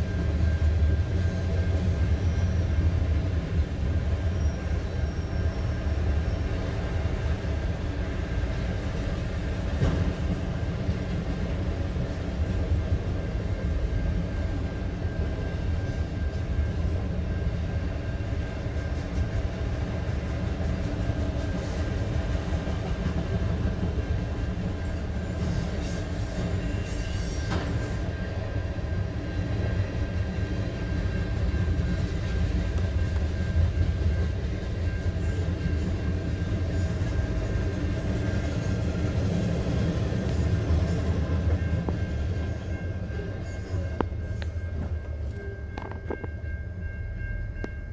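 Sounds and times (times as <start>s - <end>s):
freight train cars rumbling past: 0.0s - 47.9s.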